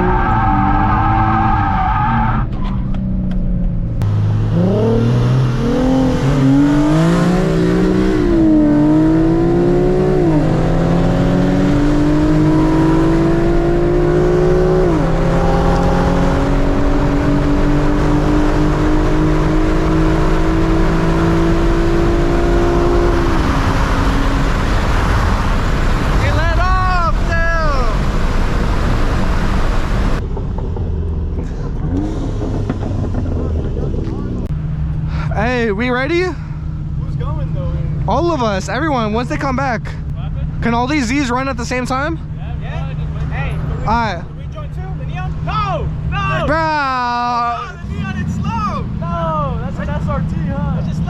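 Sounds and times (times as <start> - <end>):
car engine accelerating hard: 0.0 - 51.0.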